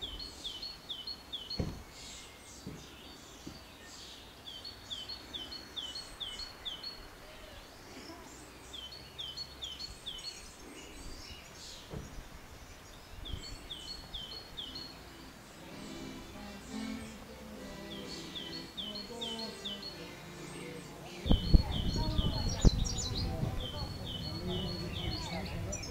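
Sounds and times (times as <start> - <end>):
birds twittering: 0.0 - 25.9.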